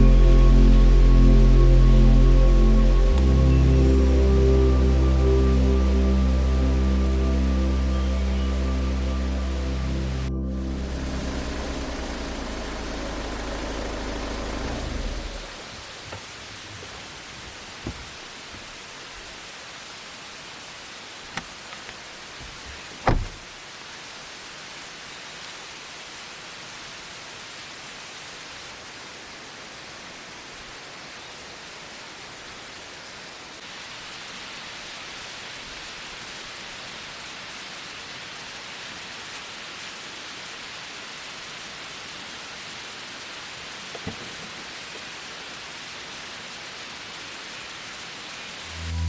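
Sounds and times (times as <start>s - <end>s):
steady outdoor hiss: 0.0s - 49.0s.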